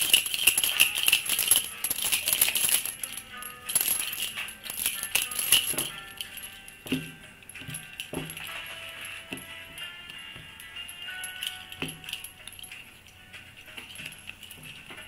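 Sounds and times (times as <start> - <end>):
hand rattle shaking: 0.0 - 9.9, 10.7 - 12.9
soft music: 0.0 - 15.0.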